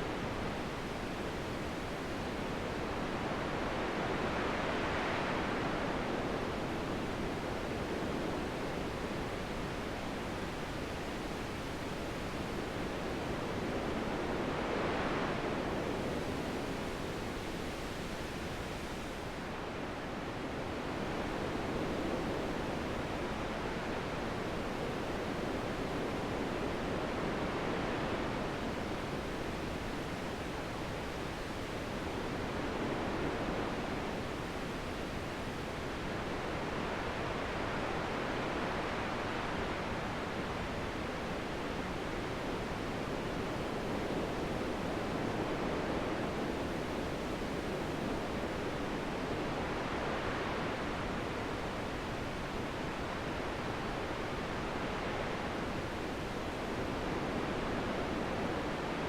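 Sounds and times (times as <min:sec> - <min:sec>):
wind: 0:00.0 - 0:59.0.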